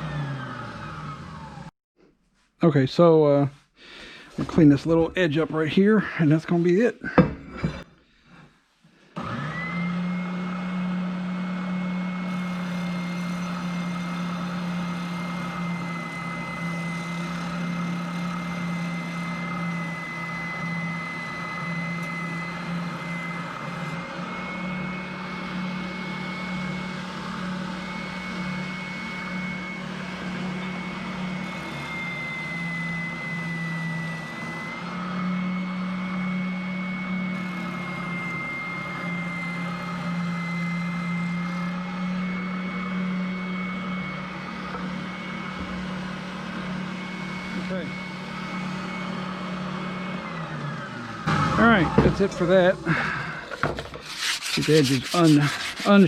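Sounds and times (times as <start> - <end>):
electric router whining: 0.0 - 1.7, 9.1 - 56.0.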